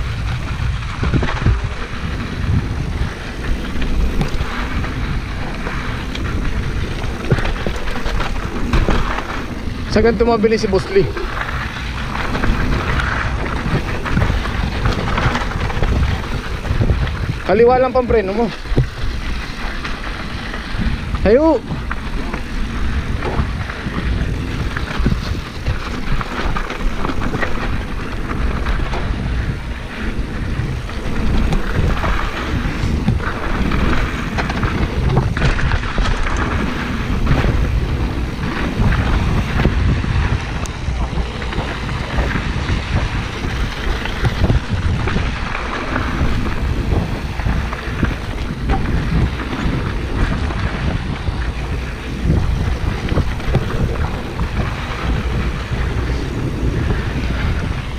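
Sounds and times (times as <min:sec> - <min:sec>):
bike rattling over bumps: 0:00.0 - 0:57.9
tyres on loose gravel: 0:00.0 - 0:57.9
wind buffeting microphone: 0:00.0 - 0:57.9.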